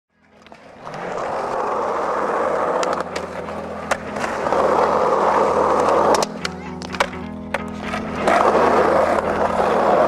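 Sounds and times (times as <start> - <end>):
skateboard wheels rolling on asphalt: 0.2 - 10.0.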